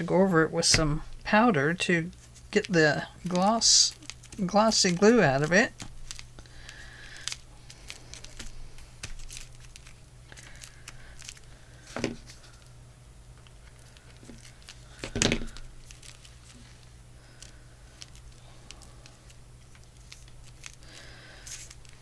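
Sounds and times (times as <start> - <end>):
paper crinkling and rustling: 2.1 - 12.7, 13.4 - 22.0.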